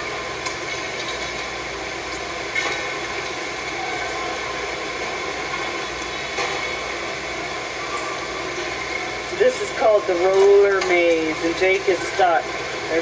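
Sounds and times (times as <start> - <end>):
din of busy play hall: 0.0 - 13.0.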